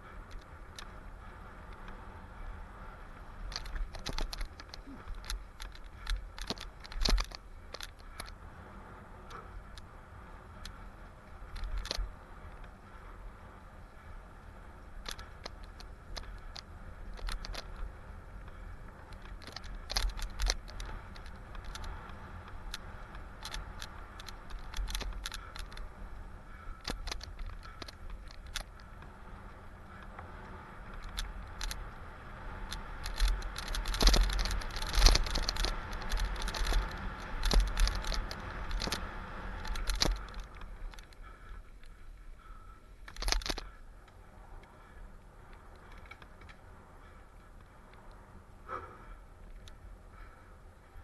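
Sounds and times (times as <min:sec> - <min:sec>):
bike chain and frame rattling: 0:00.0 - 0:51.0
tyres on dirt: 0:00.0 - 0:51.0.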